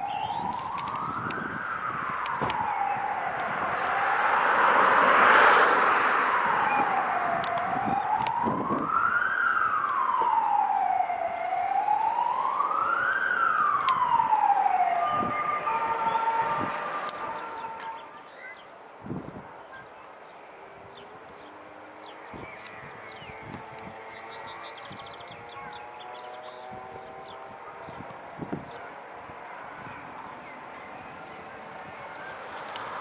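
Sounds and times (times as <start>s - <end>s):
wailing siren: 0.0s - 18.3s, 20.6s - 33.0s.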